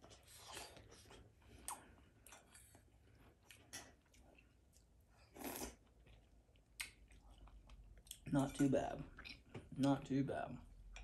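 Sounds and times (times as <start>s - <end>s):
person chewing: 0.0s - 9.5s.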